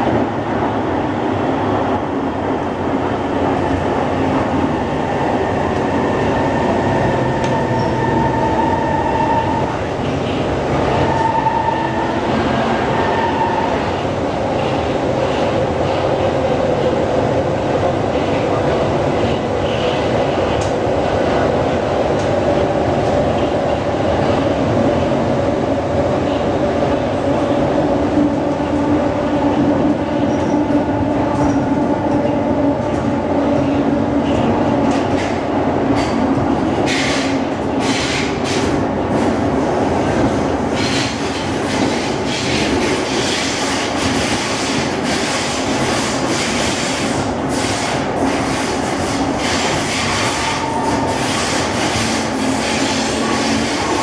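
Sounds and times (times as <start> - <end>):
train rumbling in tunnel: 0.0 - 54.0.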